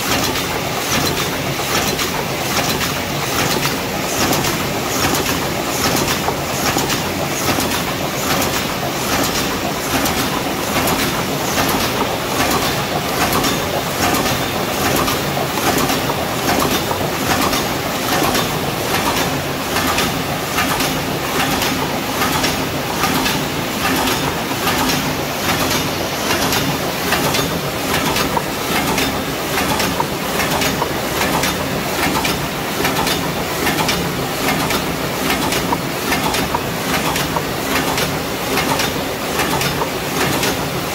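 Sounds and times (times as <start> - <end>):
machine clattering: 0.0 - 40.9.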